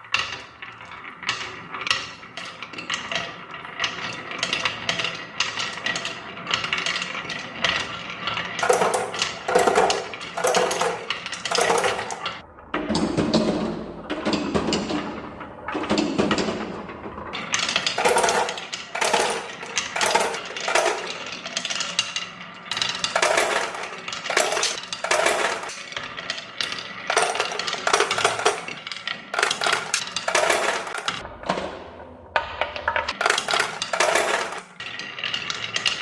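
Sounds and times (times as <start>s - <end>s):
marbles rattling down a marble run: 0.0s - 12.4s, 17.4s - 31.2s, 33.1s - 36.0s.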